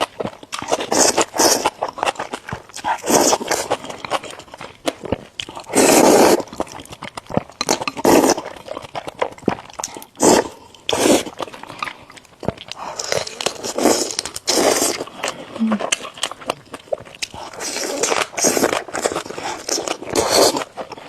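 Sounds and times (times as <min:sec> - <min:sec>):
person biting and chewing food: 0:00.0 - 0:21.0.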